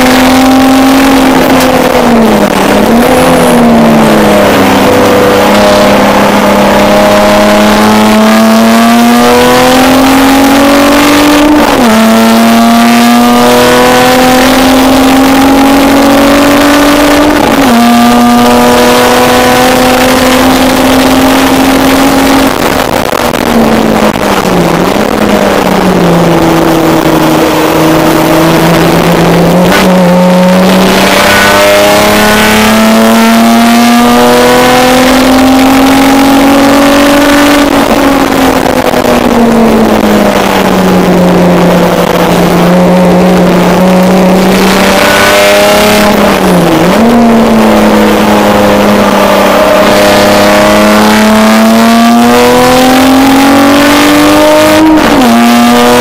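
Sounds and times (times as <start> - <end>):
race car engine from inside cabin: 0.0 - 56.0.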